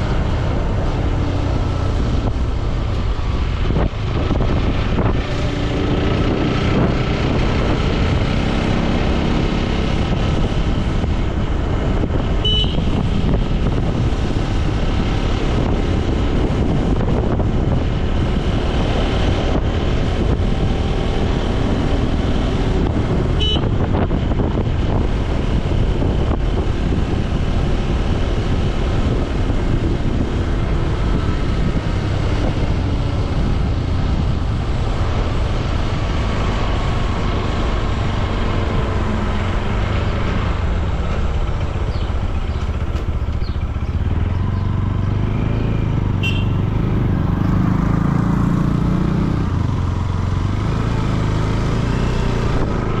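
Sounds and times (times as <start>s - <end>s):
motorcycle engine running: 0.0s - 53.0s
wind rushing over microphone: 0.0s - 53.0s.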